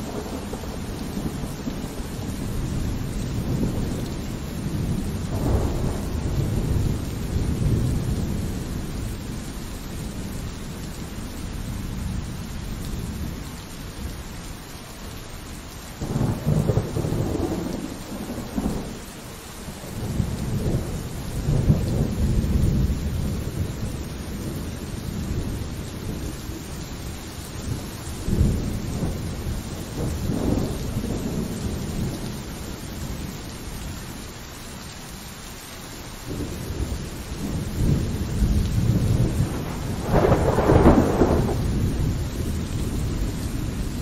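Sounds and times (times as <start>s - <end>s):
thunder rumbling and cracking: 0.0s - 11.0s, 16.0s - 19.1s, 19.7s - 33.7s, 36.3s - 44.0s
steady rain: 0.0s - 44.0s.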